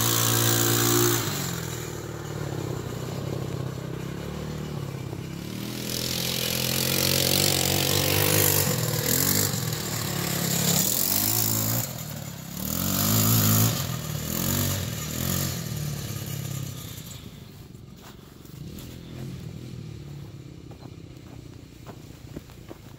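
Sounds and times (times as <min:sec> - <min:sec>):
atv engine revving: 0:00.0 - 0:22.9.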